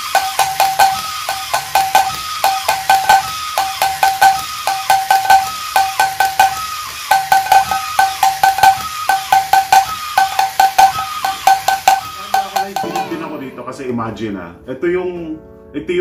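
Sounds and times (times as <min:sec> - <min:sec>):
toy drum ringing strikes: 0:00.0 - 0:13.7.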